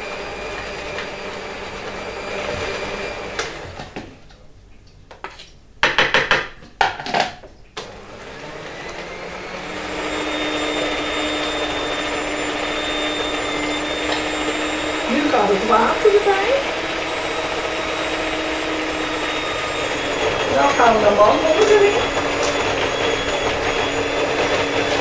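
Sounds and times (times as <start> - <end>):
stand mixer running: 0.0 - 3.8, 7.9 - 25.0.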